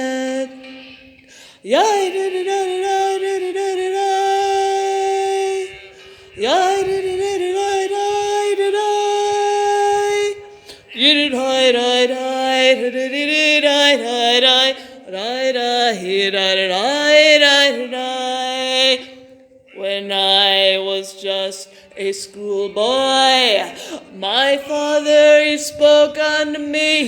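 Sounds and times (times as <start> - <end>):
person singing without words: 0.0 - 27.0.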